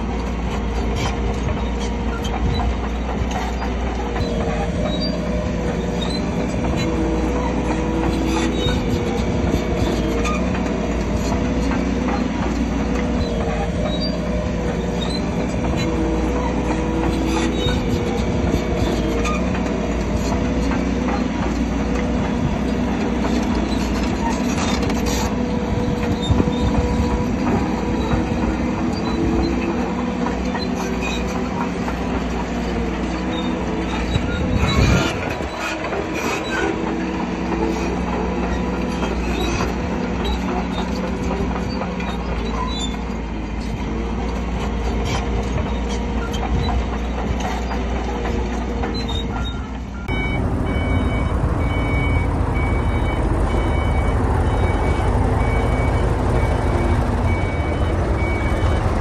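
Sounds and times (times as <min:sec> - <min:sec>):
bulldozer diesel engine: 0:00.0 - 0:59.0
crawler tracks clanking and squealing: 0:00.0 - 0:59.0.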